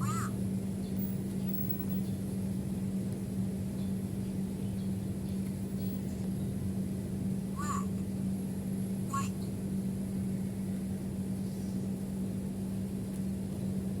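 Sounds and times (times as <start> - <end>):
soft background rumble: 0.0 - 14.0
steady low hum: 0.0 - 14.0.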